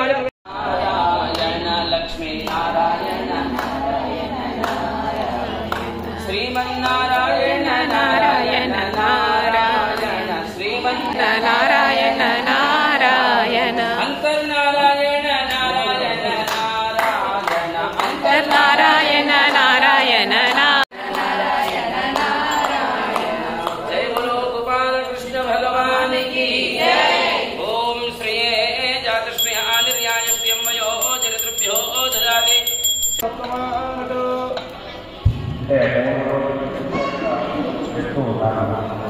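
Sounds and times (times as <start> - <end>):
voices chanting: 0.5 - 35.1.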